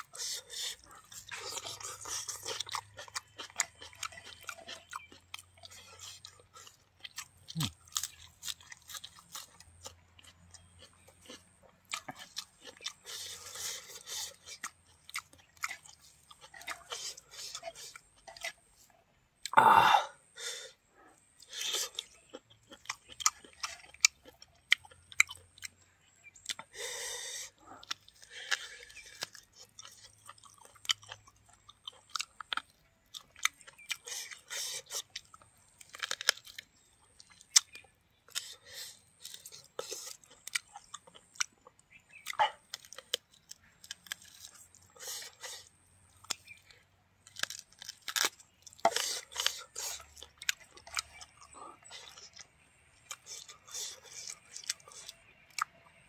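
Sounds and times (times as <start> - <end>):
chewing and crunching meat: 0.0 - 56.0.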